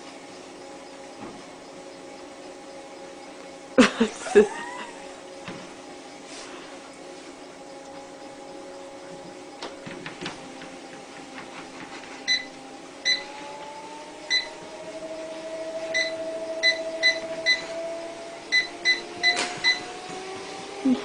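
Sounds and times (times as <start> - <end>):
treadmill motor whine: 0.0 - 21.0.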